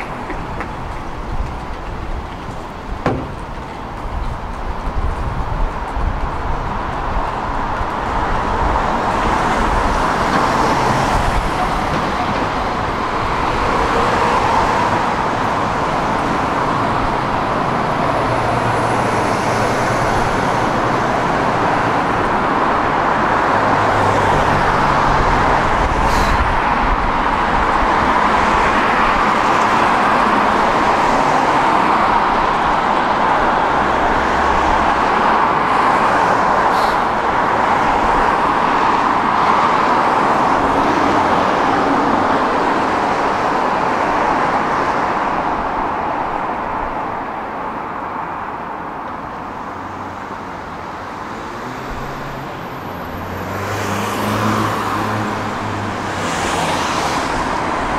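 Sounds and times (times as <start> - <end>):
tram rolling on rails: 0.0 - 57.9.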